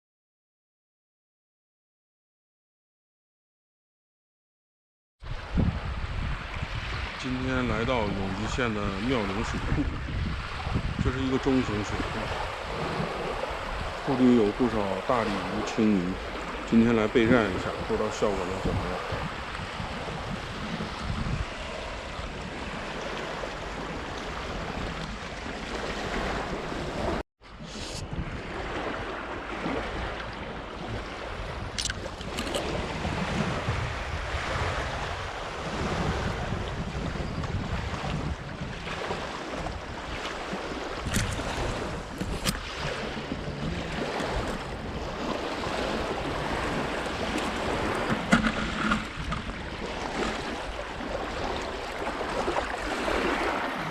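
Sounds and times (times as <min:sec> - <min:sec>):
choppy water: 0:05.2 - 0:53.9
strong wind on microphone: 0:05.2 - 0:53.9.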